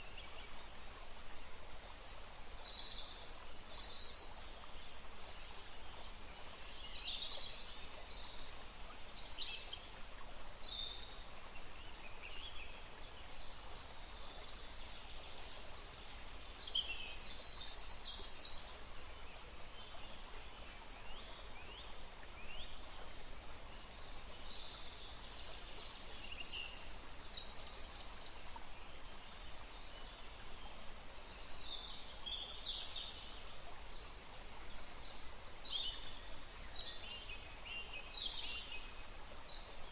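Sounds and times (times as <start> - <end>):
running water: 0.0 - 39.9
wind in trees: 0.0 - 39.9.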